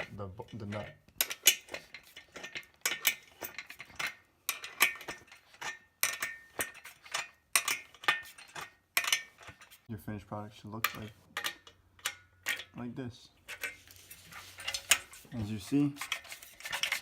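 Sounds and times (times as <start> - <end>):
wrenches clinking on steel bolt: 0.0 - 9.9, 10.8 - 17.0.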